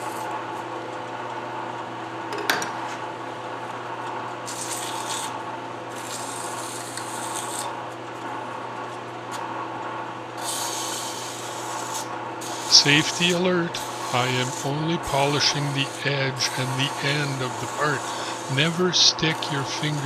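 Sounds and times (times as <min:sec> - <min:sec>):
lathe motor hum: 0:03.0 - 0:20.0.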